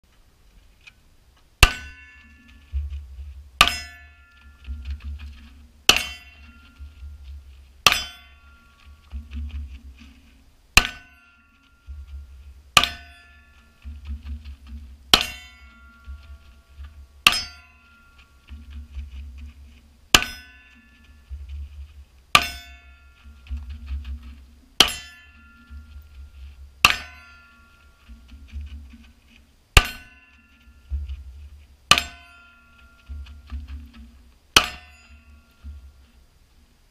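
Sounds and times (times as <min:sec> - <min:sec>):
running footsteps on gravel: 0:01.4 - 0:36.3.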